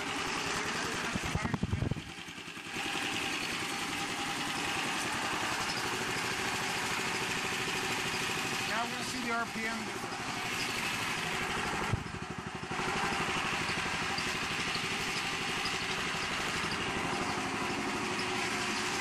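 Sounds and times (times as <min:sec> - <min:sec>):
gasoline engine running: 0:00.0 - 0:19.0.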